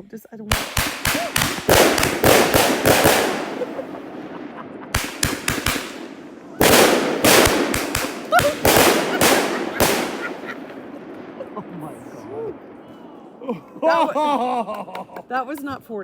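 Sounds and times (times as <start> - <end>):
fireworks bangs and crackles: 0.5 - 13.9.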